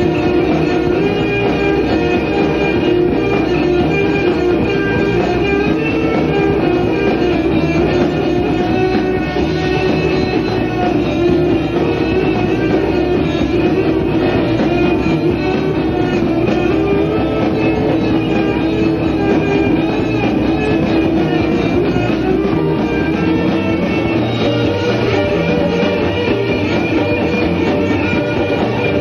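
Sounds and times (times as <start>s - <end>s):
electric guitar: 0.0s - 29.0s
live rock band playing: 0.0s - 29.0s.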